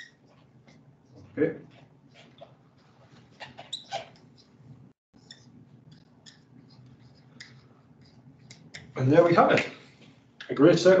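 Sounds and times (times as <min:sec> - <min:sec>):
marker squeaking on whiteboard: 0:00.0 - 0:09.4.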